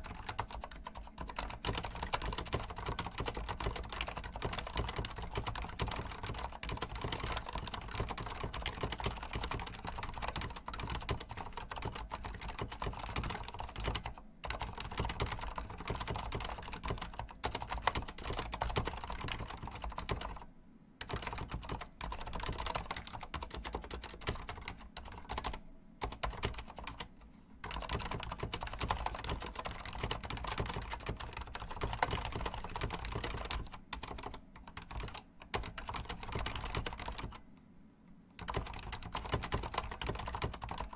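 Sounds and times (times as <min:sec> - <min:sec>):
mechanical keyboard typing: 0:00.0 - 0:37.4, 0:38.4 - 0:40.9.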